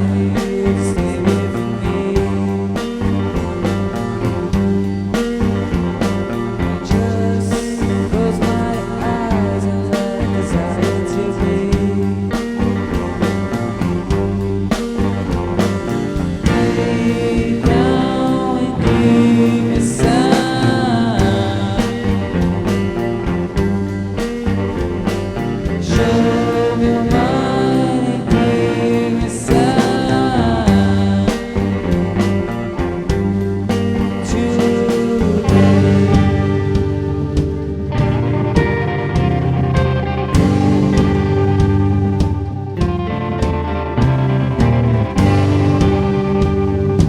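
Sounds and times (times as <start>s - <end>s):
rock band playing: 0.0s - 47.0s.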